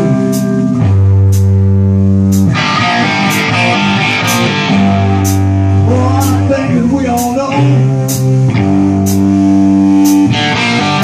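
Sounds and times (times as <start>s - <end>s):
drums and cymbals: 0.0s - 1.6s, 2.3s - 11.0s
distorted electric guitar chord: 0.0s - 11.0s.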